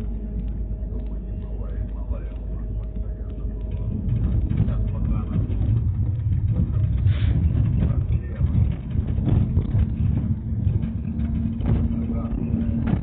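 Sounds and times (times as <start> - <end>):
minibus engine and road rumble: 0.0 - 13.0
steady low hum: 0.0 - 13.0.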